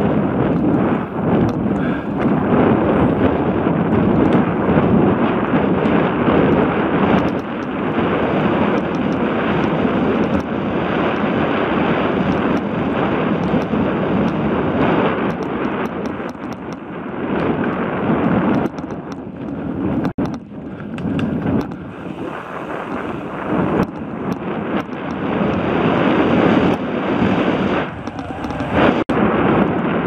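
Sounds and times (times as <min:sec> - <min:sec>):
bike rattling clicks: 0:00.0 - 0:29.1
bike tyre noise on dirt: 0:00.0 - 0:30.0
wind rushing over microphone: 0:00.0 - 0:30.0.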